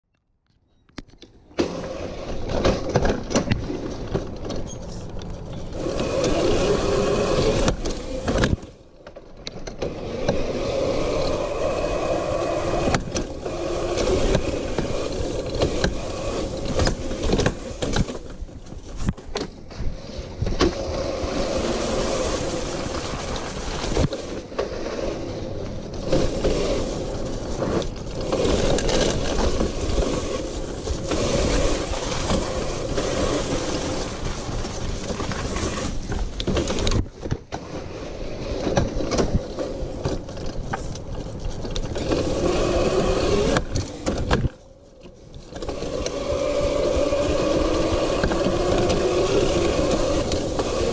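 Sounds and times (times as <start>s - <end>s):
electric motor and chain whine: 1.6s - 8.8s, 9.4s - 18.4s, 20.4s - 37.0s, 38.0s - 44.6s, 45.2s - 50.9s.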